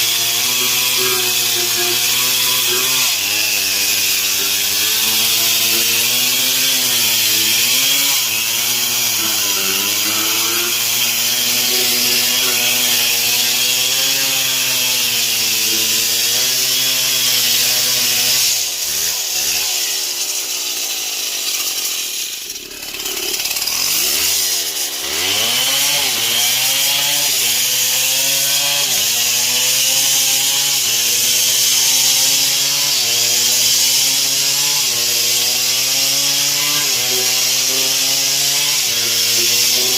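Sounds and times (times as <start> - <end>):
chainsaw sawing wood: 0.0 - 39.9.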